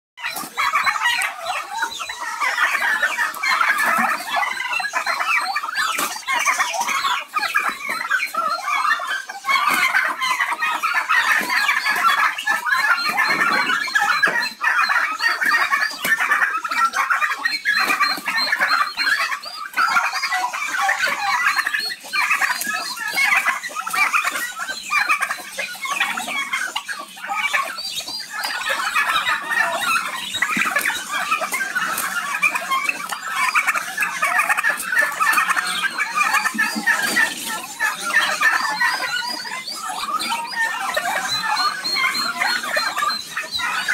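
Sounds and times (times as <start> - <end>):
turkeys clucking and calling: 0.2 - 43.9.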